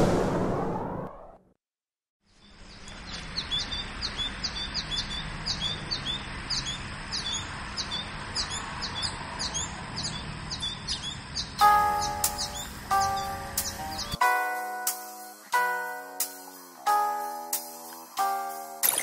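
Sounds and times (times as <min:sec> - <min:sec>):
birds chirping: 0:02.3 - 0:19.0.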